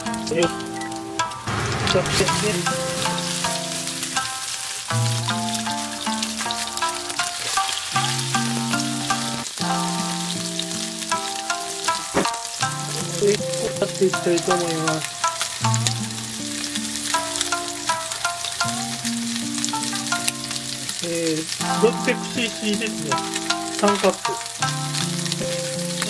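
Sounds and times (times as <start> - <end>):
background music with held notes: 0.0 - 26.0
meat sizzling in a frying pan: 0.0 - 26.0.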